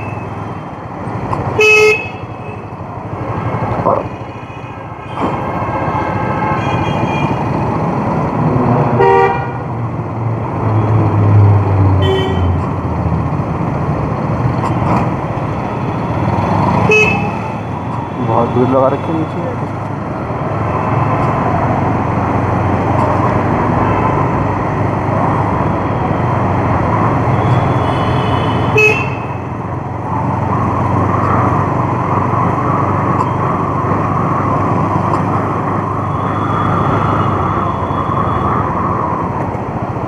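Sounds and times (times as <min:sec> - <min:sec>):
wind and road noise: 0:00.0 - 0:40.0.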